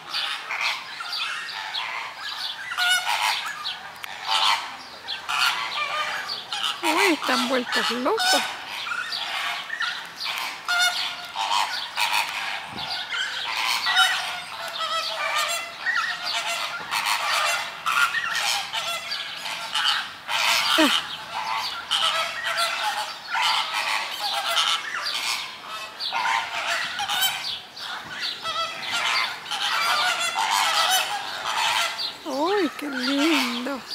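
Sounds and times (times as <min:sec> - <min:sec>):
flamingos honking: 0:00.0 - 0:33.9.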